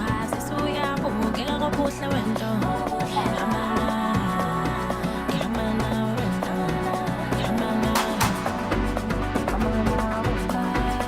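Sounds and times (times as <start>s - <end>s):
dance music with sung vocals: 0.0s - 11.0s.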